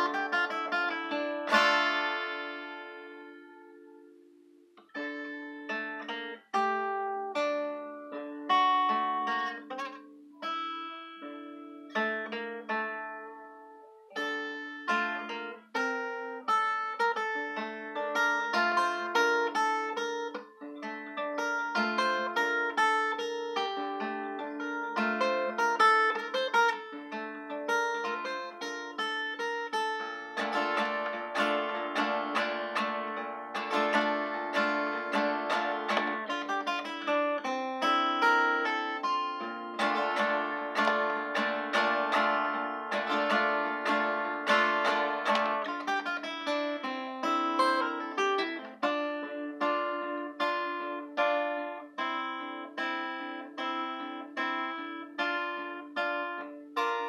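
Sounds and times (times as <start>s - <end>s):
acoustic guitar playing: 0.0s - 57.0s.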